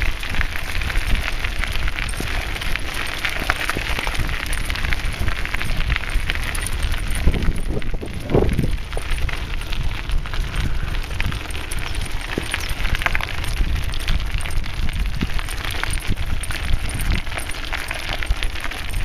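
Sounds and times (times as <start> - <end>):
bicycle clicks and rattles: 0.0 - 19.0
wind and tyres rumbling: 0.0 - 19.0.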